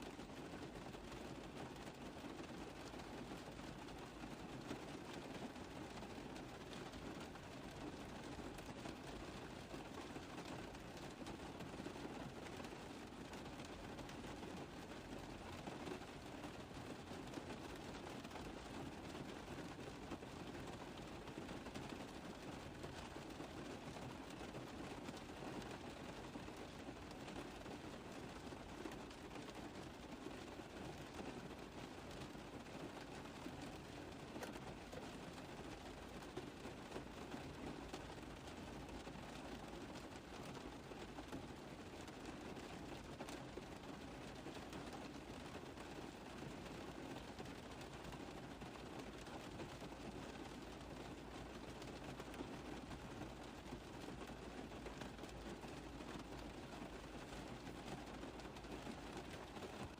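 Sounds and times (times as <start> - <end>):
rain pattering on car roof: 0.0 - 59.9.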